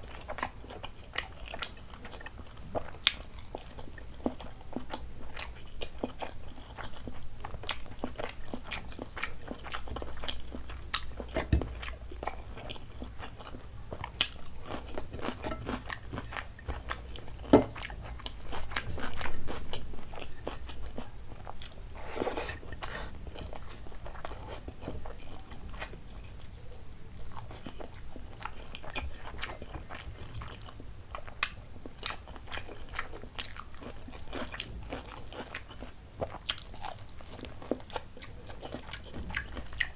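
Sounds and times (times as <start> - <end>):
food crunching: 0.0 - 39.9
person chewing food: 0.0 - 39.9.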